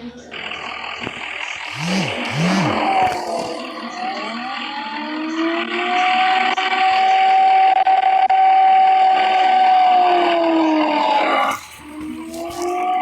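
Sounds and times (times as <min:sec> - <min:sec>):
engine revving: 0:00.3 - 0:13.0.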